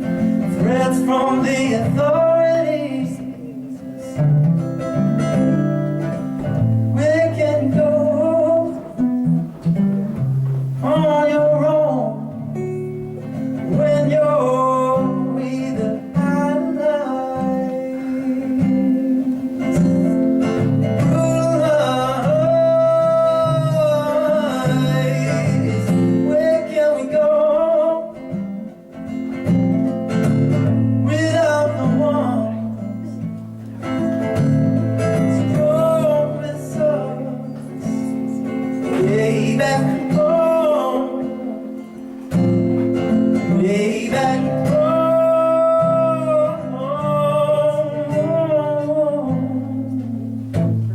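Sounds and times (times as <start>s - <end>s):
acoustic guitar chords: 0.0s - 50.9s
man singing: 0.0s - 50.9s.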